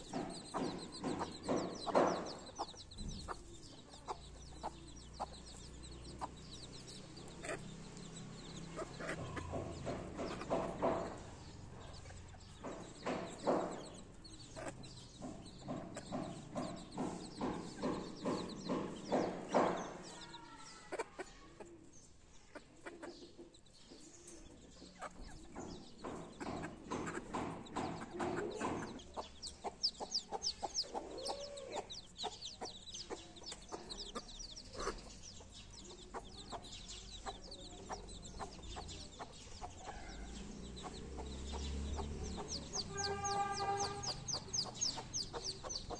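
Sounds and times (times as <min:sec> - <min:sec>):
chicks peeping: 0:00.0 - 0:45.9
hen clucking: 0:00.0 - 0:45.9.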